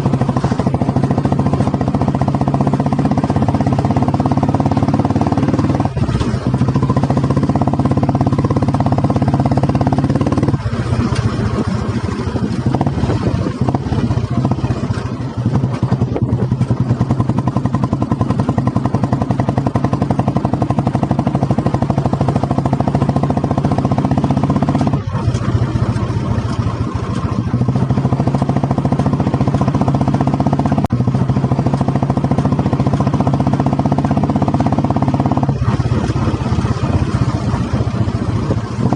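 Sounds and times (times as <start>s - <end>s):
motorcycle engine with loud exhaust: 0.0s - 38.9s.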